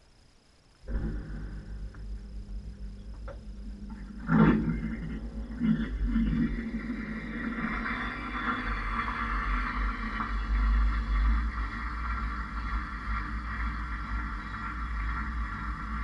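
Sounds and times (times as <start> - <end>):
washing machine drum rumble: 0.9 - 16.0.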